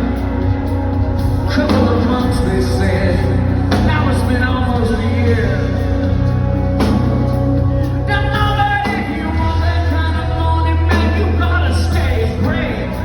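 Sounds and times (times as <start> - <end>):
bass line: 0.0 - 13.0
person singing: 0.0 - 13.0
rock band playing live: 0.0 - 13.0.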